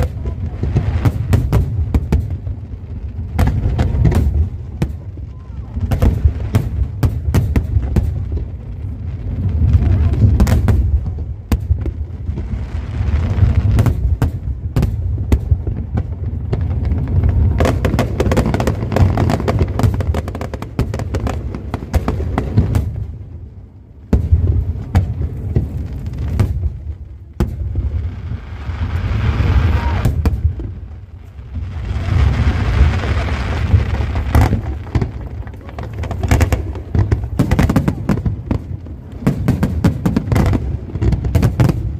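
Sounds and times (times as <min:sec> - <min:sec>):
fireworks booming and crackling: 0:00.0 - 0:41.9.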